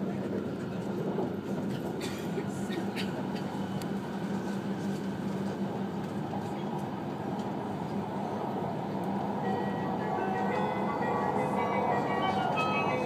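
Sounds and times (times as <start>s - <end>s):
train wheels and air rumble: 0.0s - 13.0s.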